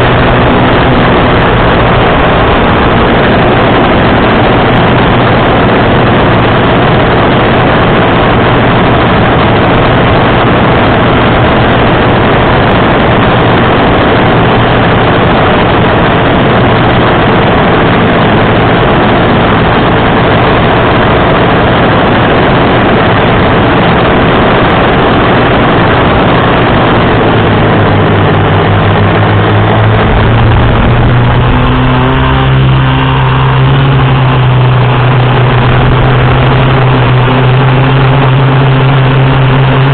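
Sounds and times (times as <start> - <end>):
quadcopter motors and propellers: 0.0 - 39.9.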